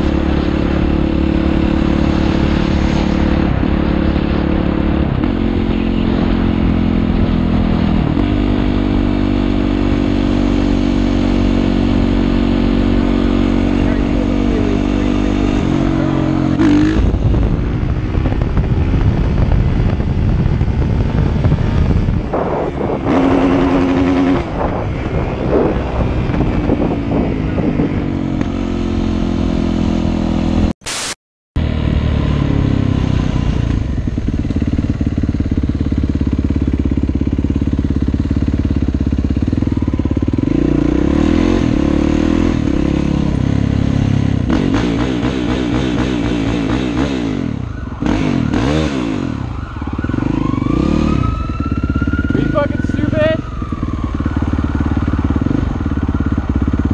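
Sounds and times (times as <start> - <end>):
dirt bike engine revving: 0.0 - 19.5, 21.1 - 30.7, 31.6 - 56.9.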